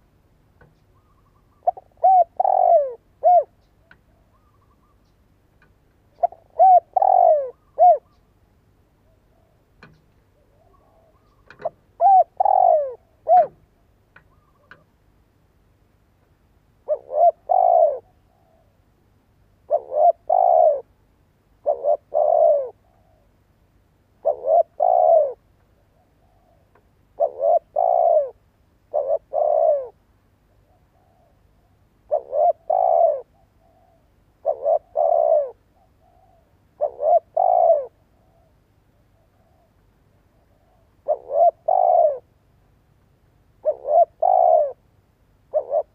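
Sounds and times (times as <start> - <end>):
dove cooing: 0.6 - 8.3, 8.9 - 15.0, 16.8 - 18.8, 19.6 - 21.0, 21.6 - 23.4, 24.2 - 42.3, 43.6 - 44.8, 45.5 - 45.9.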